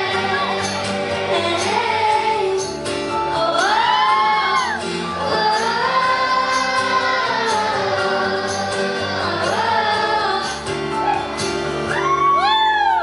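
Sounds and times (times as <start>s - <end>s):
layered female vocals: 0.0s - 10.8s
pop backing track: 0.0s - 13.0s.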